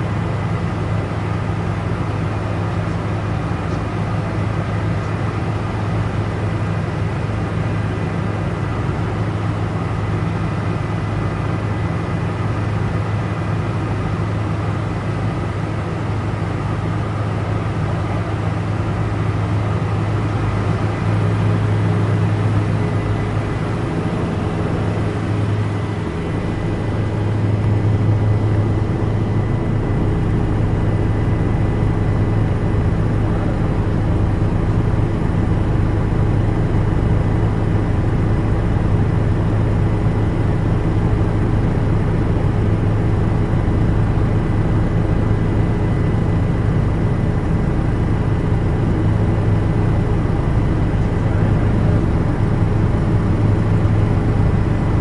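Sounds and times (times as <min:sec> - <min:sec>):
helicopter engine and rotors drone: 0:00.0 - 0:55.0
thin steady whine: 0:00.0 - 0:55.0.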